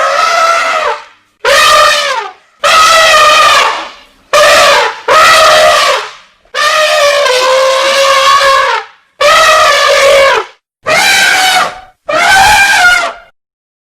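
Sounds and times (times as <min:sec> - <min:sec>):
elephant trumpeting: 0:00.0 - 0:13.3.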